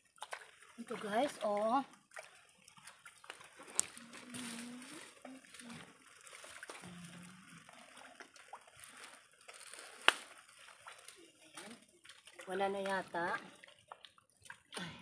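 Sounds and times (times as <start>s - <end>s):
shallow water trickling and sloshing: 0.0s - 15.0s
hands feeling through mud: 0.1s - 15.0s.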